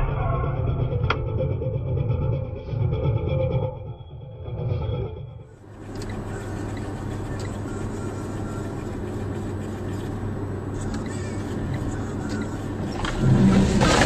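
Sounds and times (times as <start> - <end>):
car engine noise: 0.0 - 14.0
constant low hum: 0.0 - 14.0.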